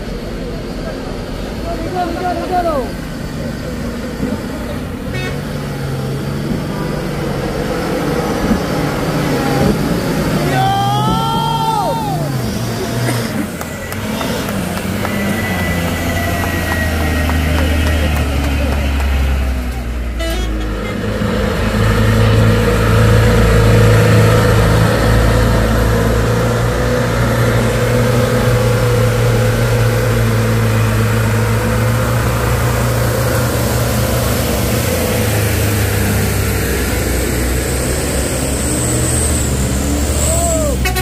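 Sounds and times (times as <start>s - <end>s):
diesel trucks climbing past: 0.0s - 41.0s.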